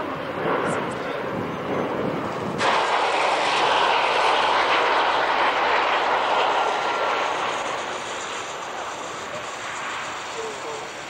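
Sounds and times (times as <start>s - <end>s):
turboprop aircraft passing low: 0.0s - 11.0s.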